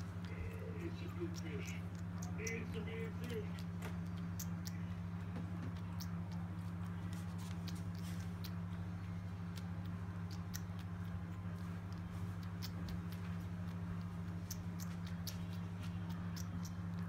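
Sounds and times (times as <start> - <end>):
cat sucking and smacking: 0.0 - 17.0
low hum: 0.0 - 17.0.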